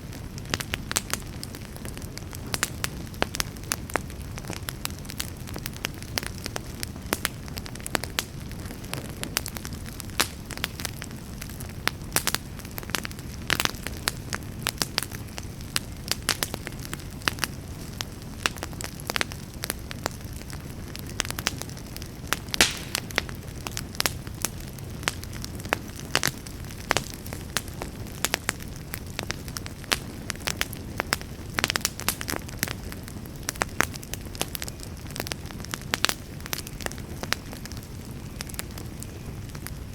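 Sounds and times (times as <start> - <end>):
campfire popping and snapping: 0.0 - 39.9
low rumble of burning: 0.0 - 39.9.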